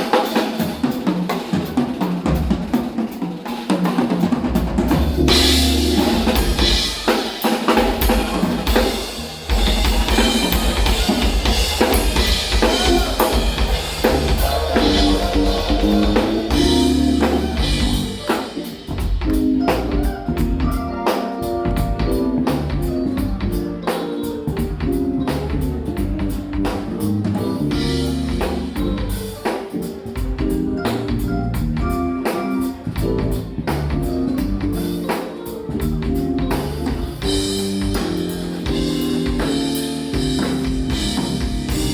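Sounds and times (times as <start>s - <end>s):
busy drumming with cymbals: 0.0s - 41.9s
jazz fusion trio playing: 0.0s - 41.9s
keyboard and bass riff: 4.3s - 41.9s.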